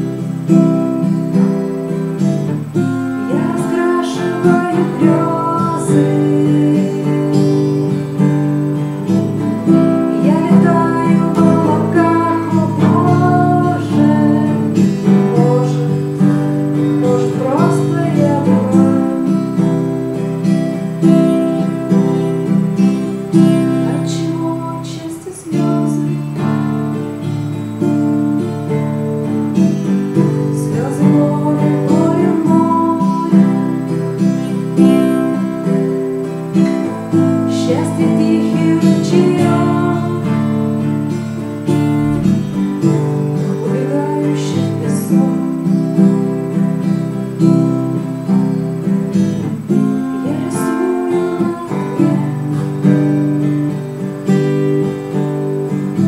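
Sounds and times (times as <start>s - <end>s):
acoustic guitar strummed chords: 0.0s - 56.0s.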